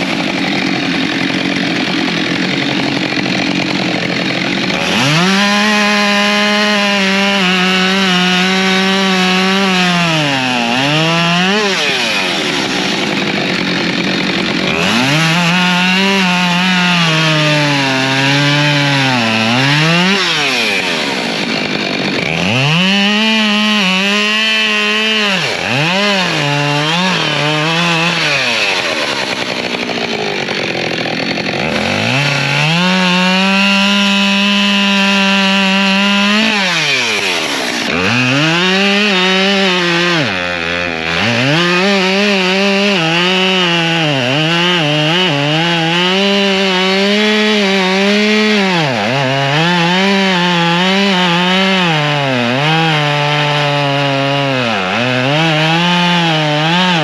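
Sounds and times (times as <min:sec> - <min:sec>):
chainsaw cutting firewood: 0:00.0 - 0:57.0.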